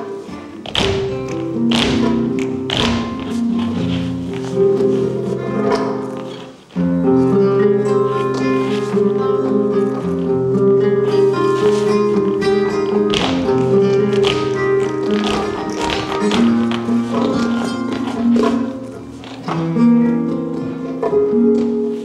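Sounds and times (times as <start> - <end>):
acoustic guitars: 0.0 - 22.0
shoes tapping on stage floor: 0.0 - 22.0.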